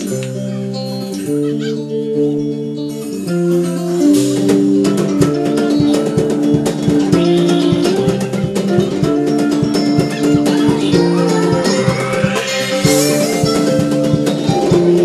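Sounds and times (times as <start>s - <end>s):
sped-up guitar riff: 0.0s - 15.0s.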